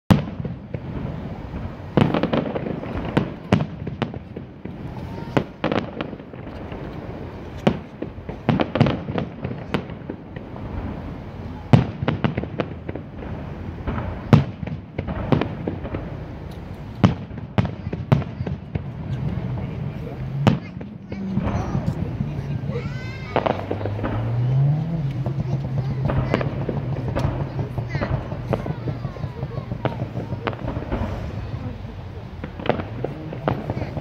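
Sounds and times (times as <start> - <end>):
background rumble: 0.1 - 34.0
firework shells bursting: 0.1 - 34.0.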